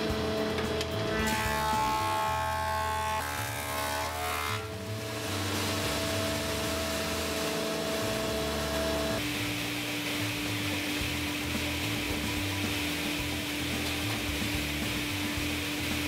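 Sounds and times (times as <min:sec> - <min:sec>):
background music: 0:00.0 - 0:16.0
thickness planer running: 0:00.0 - 0:16.0.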